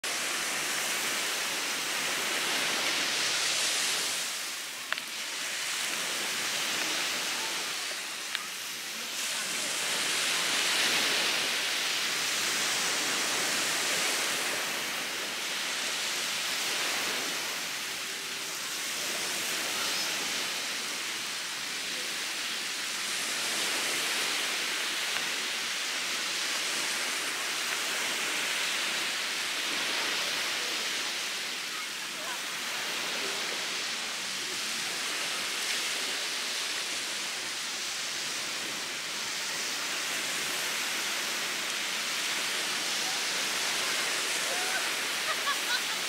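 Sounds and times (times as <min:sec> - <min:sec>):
surf washing onto beach: 0:00.0 - 0:46.0.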